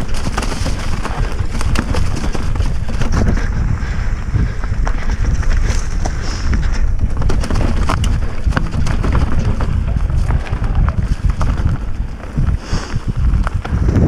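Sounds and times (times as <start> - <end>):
bike rattling over dirt and stones: 0.0 - 14.0
wind rushing over microphone: 0.0 - 14.0.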